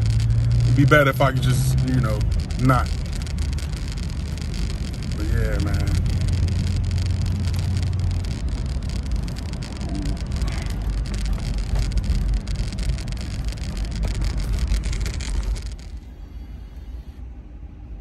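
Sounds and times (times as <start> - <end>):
small crackles: 0.0 - 17.1
car engine rumble: 0.0 - 18.0
road noise: 0.0 - 18.0.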